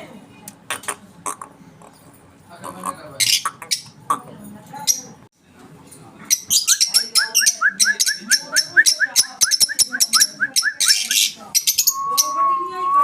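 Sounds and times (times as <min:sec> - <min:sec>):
lovebirds chattering: 0:00.6 - 0:05.3, 0:06.2 - 0:12.9.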